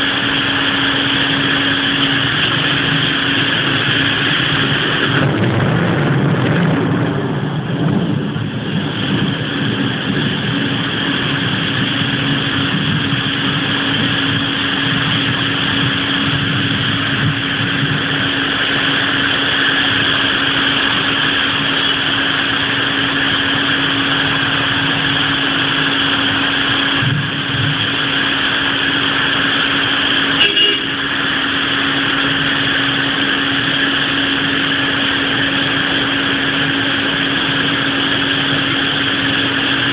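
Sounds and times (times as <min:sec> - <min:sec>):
heavy rain hissing: 0:00.0 - 0:39.9
steady low hum: 0:00.0 - 0:39.9.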